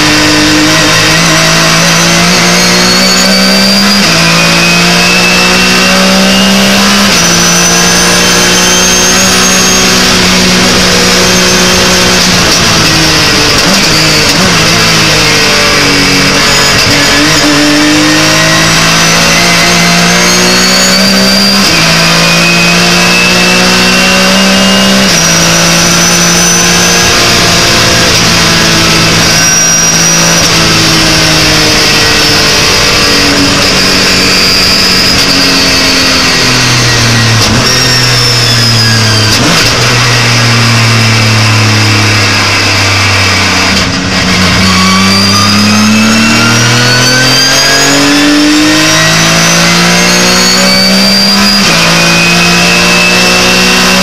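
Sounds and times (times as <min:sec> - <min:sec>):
race car engine with gear shifts: 0:00.0 - 0:54.0.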